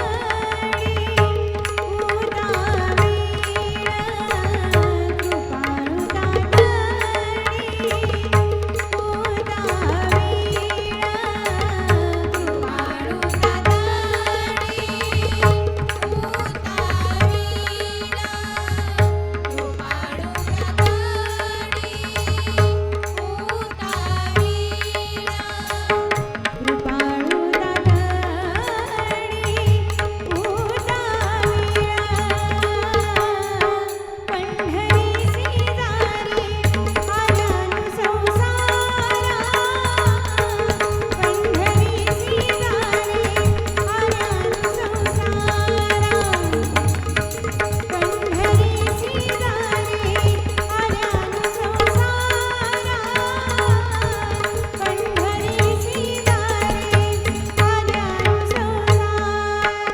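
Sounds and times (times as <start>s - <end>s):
tabla and drum rhythm: 0.0s - 59.9s.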